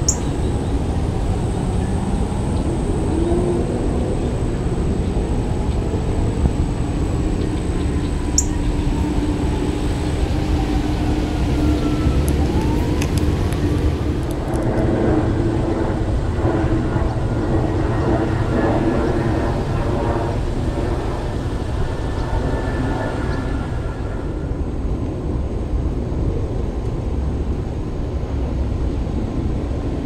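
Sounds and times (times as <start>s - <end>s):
distant engine rumble: 0.0s - 30.0s.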